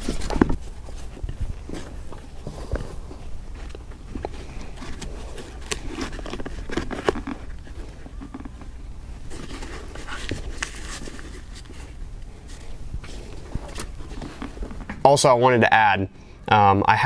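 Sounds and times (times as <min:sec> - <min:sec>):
cords and laces rustling: 0:00.0 - 0:15.7.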